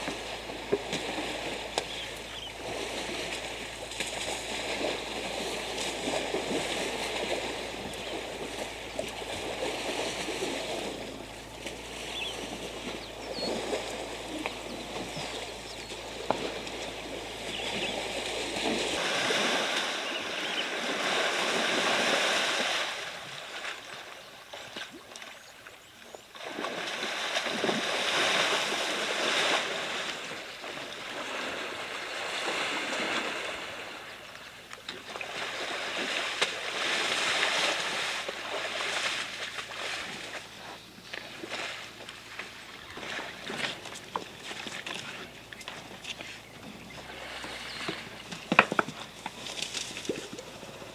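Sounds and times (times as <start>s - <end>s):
muddy water splashing: 0.0s - 50.9s.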